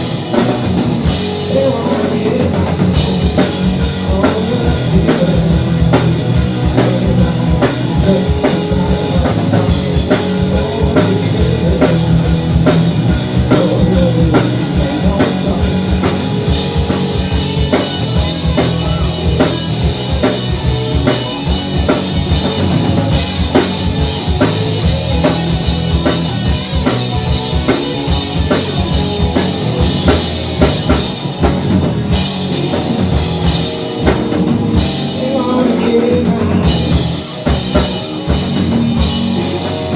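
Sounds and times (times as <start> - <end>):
drum kit fast beat: 0.0 - 39.9
rock band playing live: 0.0 - 39.9.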